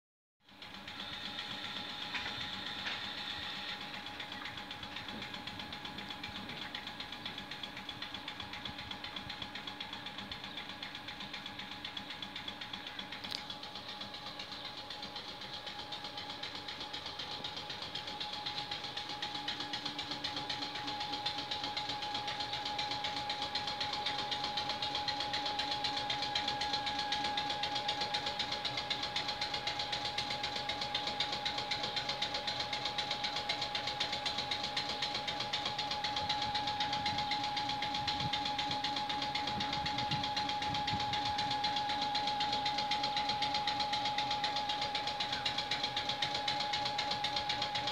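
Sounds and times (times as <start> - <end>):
air compressor chugging: 0.4 - 47.9
steady whine: 0.5 - 47.9.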